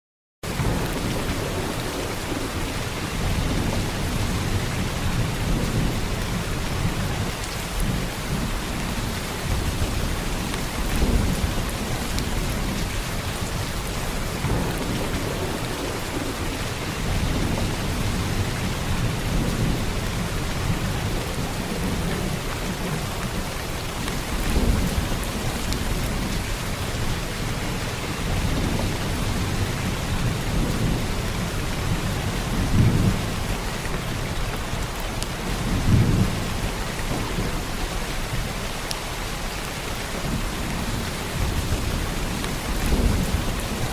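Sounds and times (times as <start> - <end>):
heavy rain falling: 0.4 - 43.9.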